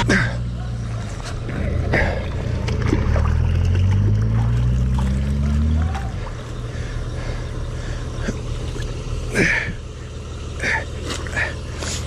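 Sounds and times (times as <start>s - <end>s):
vehicle engine revving: 0.0s - 12.0s
stream trickling: 1.2s - 12.0s.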